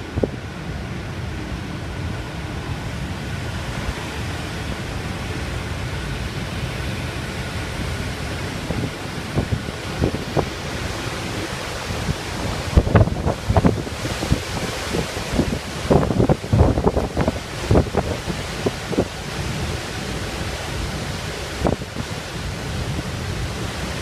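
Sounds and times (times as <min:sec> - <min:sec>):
rough sea: 0:00.0 - 0:24.0
strong wind blowing: 0:00.0 - 0:24.0
wind buffeting microphone: 0:00.0 - 0:24.0.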